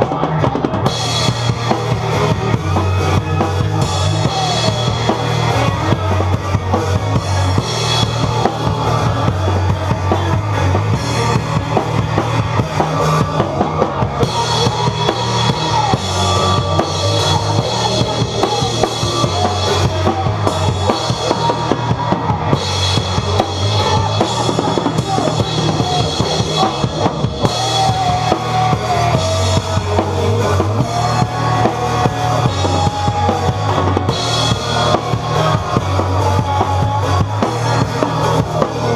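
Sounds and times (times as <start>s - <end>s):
rock band song: 0.0s - 38.9s.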